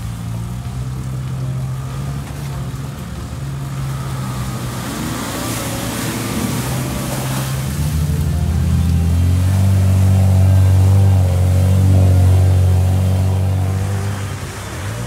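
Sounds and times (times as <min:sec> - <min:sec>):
engine running under load: 0:00.0 - 0:15.0
water splashing: 0:00.0 - 0:15.0.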